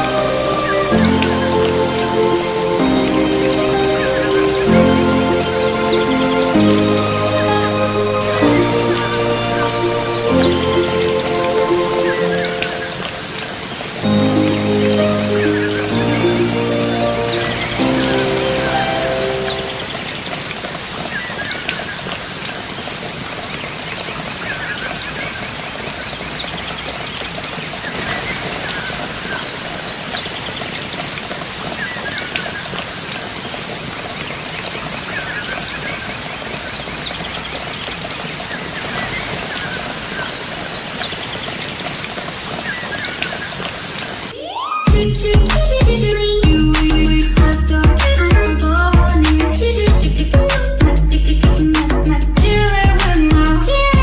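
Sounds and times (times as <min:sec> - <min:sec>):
falling water rushing: 0:00.0 - 0:45.0.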